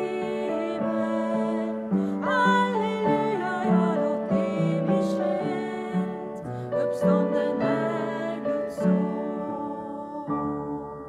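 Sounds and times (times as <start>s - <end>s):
piano hymn accompaniment: 0.0s - 11.0s
woman singing: 0.0s - 11.0s.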